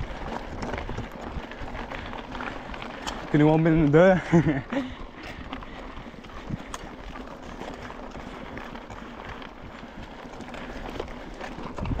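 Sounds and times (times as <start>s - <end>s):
bike clicks and rattles: 0.0s - 12.0s
tyres crunching on gravel: 0.0s - 12.0s.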